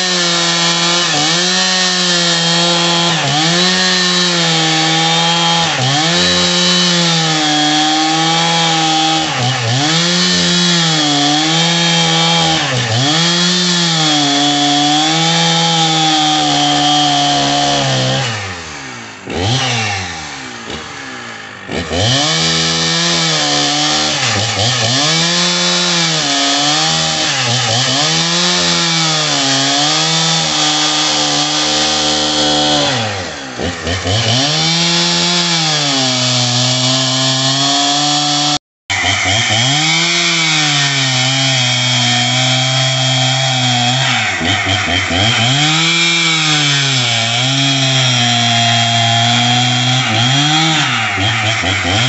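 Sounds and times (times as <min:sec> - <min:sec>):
chainsaw cutting log: 0:00.0 - 0:52.0.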